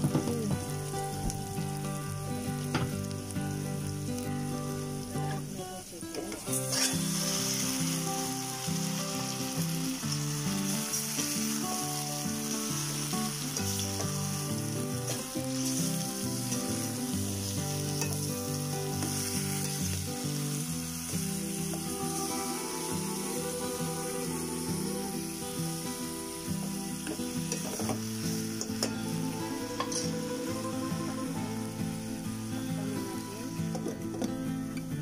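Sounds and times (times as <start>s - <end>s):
meat sizzling in hot oil: 0.0s - 34.2s.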